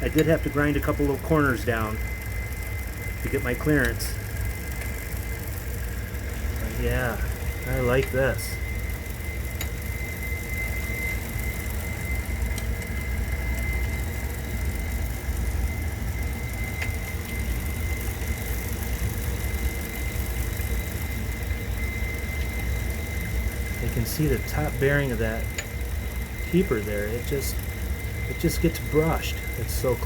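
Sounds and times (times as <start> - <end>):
rotating feed tube rumbling: 0.0 - 30.0
thin high whine: 0.0 - 30.0.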